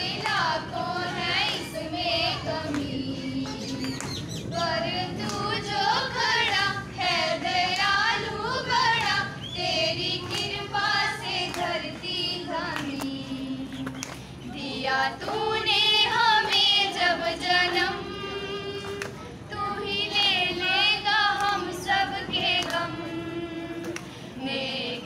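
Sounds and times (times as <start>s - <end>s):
children singing: 0.0s - 13.7s, 14.5s - 25.0s.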